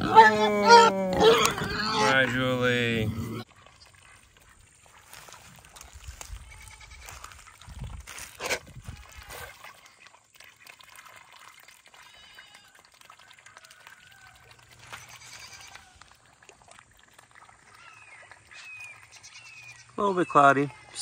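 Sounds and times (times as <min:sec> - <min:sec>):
water sloshing and lapping: 0:03.1 - 0:21.0.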